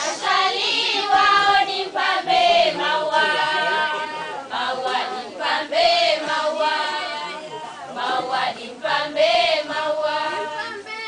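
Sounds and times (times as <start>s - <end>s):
group singing in chorus: 0.0s - 10.9s.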